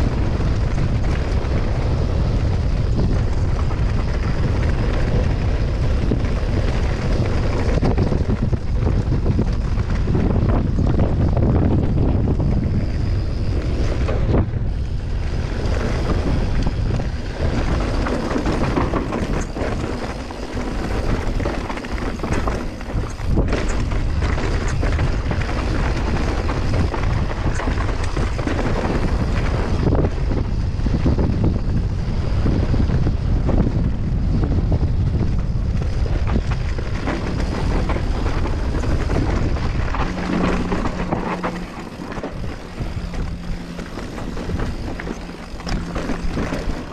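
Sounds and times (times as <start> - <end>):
bike knocking and rattling: 0.0 - 46.9
bike tyres roaring on dirt: 0.0 - 46.9
wind buffeting microphone: 0.0 - 46.9.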